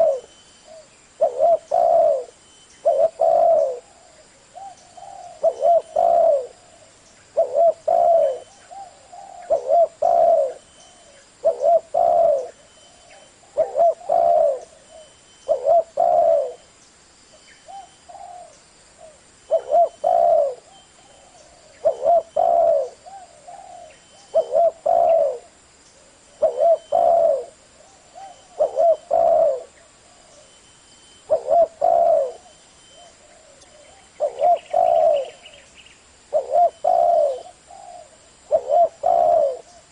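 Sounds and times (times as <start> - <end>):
dove cooing: 0.0 - 16.7, 17.6 - 30.6, 31.2 - 39.9.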